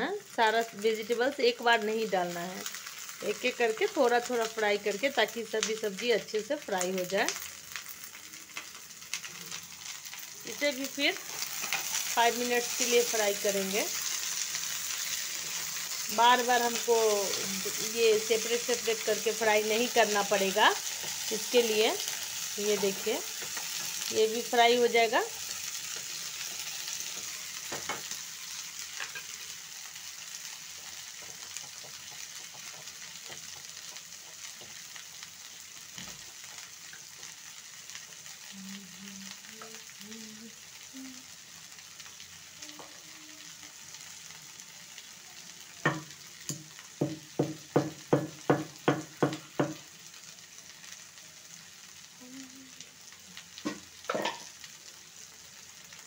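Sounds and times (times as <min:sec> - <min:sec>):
vegetables sizzling in oil: 0:00.0 - 0:56.0.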